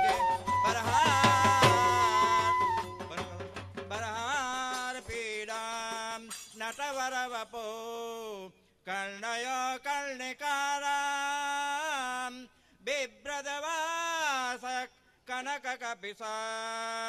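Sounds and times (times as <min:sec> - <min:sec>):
man singing devotional chant: 0:00.0 - 0:17.0.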